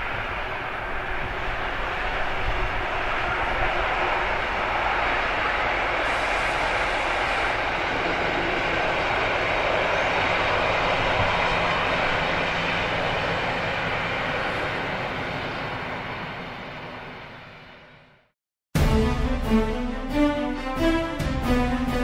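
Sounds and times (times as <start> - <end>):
train wheels rumbling on rails: 0.0 - 18.0
diesel locomotive drone: 0.0 - 22.0.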